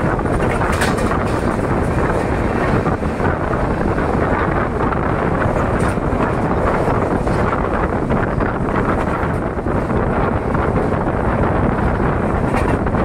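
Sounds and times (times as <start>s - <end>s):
train rushing rumble: 0.0s - 13.0s
wind on microphone: 0.0s - 13.0s.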